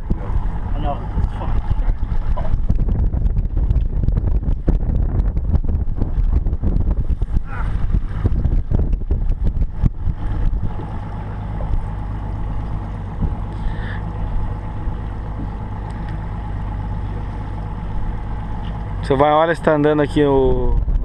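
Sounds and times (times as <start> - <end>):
outboard engine running: 0.0 - 21.0.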